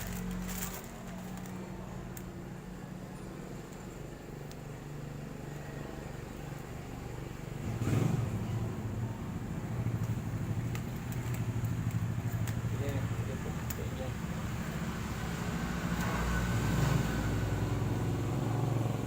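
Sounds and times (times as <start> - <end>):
engine humming steadily: 0.0 - 19.0.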